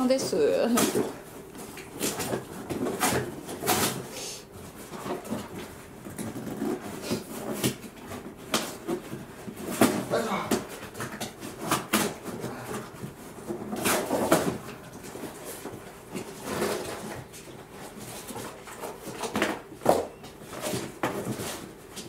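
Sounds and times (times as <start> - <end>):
cardboard box rustling and scraping: 0.0 - 22.0
cardboard tearing: 0.7 - 22.0.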